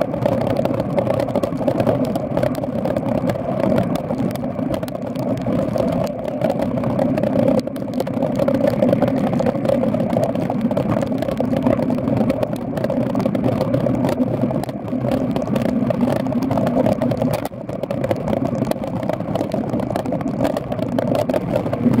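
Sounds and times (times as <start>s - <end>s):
bicycle riding in rain: 0.0s - 22.0s.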